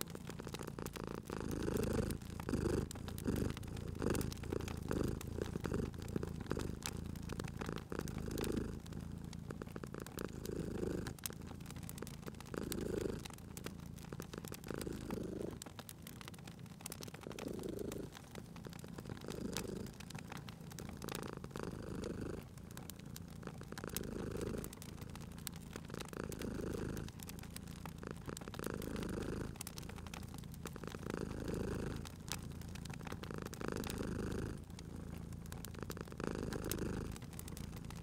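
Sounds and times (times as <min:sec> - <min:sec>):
cat purring: 0:00.0 - 0:38.0
wood fire crackling: 0:00.0 - 0:38.0.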